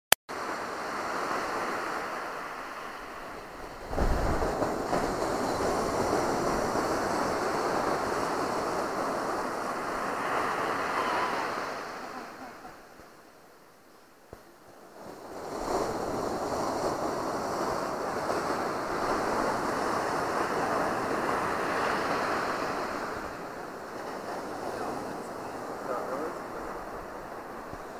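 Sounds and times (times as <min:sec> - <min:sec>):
surf washing up beach: 0:00.3 - 0:27.9.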